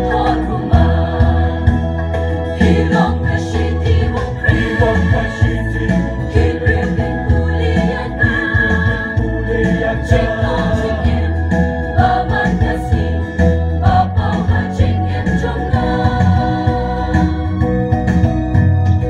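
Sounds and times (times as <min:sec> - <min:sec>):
mixed choir singing: 0:00.0 - 0:17.8.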